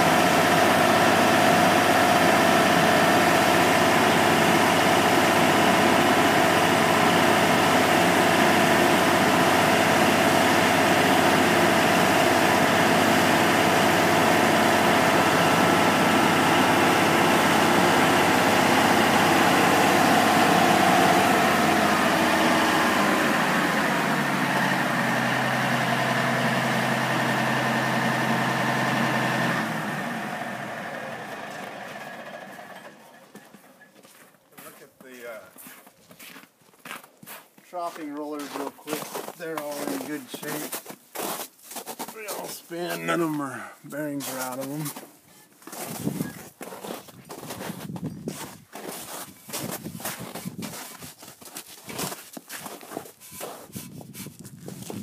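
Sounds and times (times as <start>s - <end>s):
diesel engine running: 0.0s - 34.8s, 38.2s - 55.0s.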